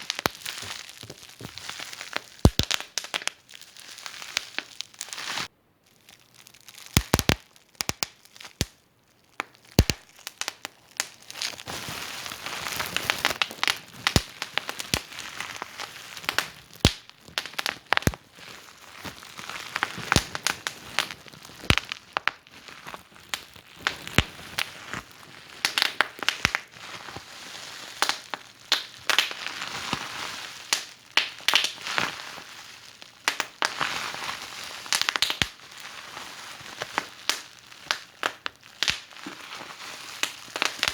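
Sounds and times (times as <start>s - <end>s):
wood fire crackling and popping: 0.0s - 5.5s, 6.7s - 27.3s, 27.9s - 35.9s, 36.8s - 40.9s.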